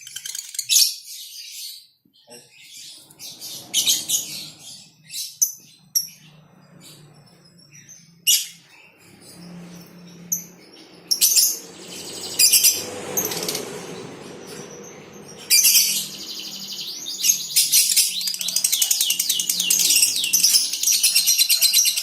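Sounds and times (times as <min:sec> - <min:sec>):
lovebirds chirping and chattering: 0:00.0 - 0:22.0.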